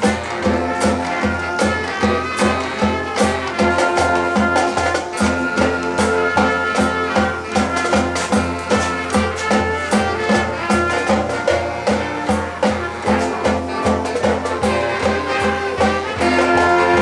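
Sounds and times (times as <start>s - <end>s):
marching band brass chords: 0.0s - 17.0s
steady drum beat: 0.0s - 17.0s.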